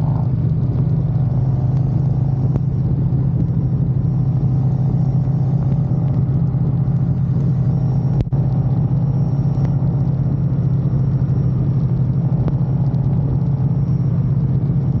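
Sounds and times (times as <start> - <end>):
motorcycle engine cruising: 0.0 - 15.0
road noise: 0.0 - 15.0
wind noise: 0.0 - 15.0.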